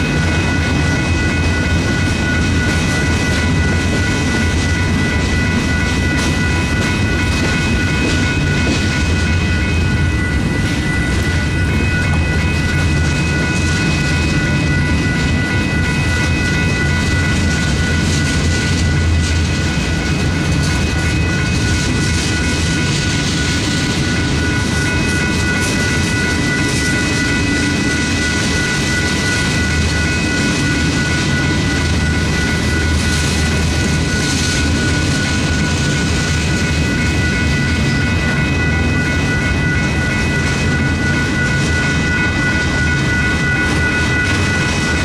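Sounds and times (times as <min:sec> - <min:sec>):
crossing bell ringing: 0:00.0 - 0:45.0
freight cars rumbling on rails: 0:00.0 - 0:45.0.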